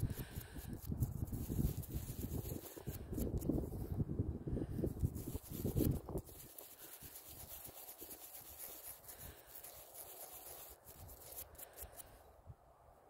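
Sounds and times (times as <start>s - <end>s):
toothbrush scrubbing soil: 0.0s - 3.9s, 4.8s - 12.2s.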